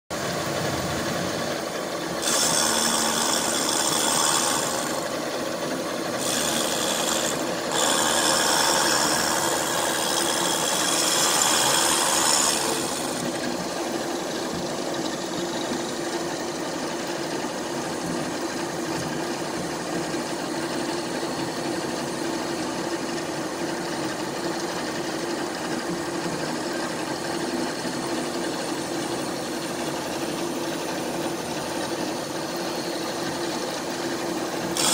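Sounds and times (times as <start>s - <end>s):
milling machine cutting metal: 0.2s - 34.9s.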